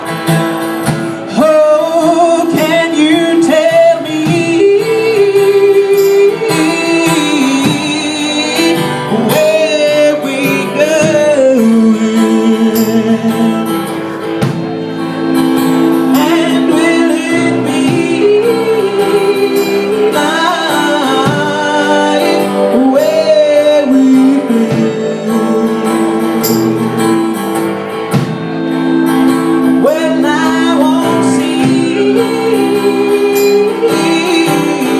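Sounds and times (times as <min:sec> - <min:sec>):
plucked guitar: 0:00.0 - 0:34.9.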